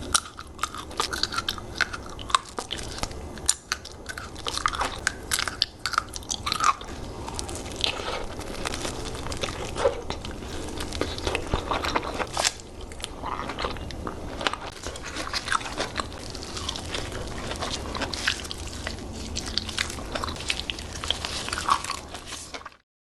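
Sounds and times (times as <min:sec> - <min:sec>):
person chewing fruit: 0:00.0 - 0:22.8.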